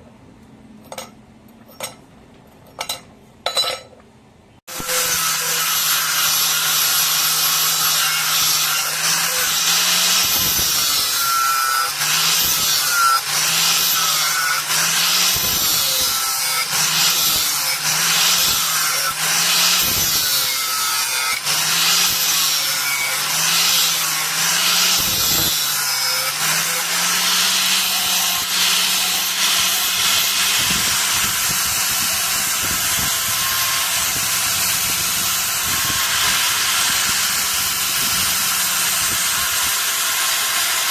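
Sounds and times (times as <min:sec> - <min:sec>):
hand tool scraping metal: 0:00.9 - 0:03.9, 0:04.7 - 0:40.9.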